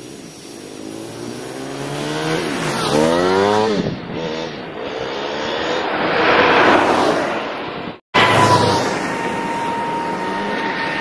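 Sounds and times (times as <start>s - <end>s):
vehicle noise: 0.0s - 11.0s
motorcycle passing by: 0.8s - 11.0s.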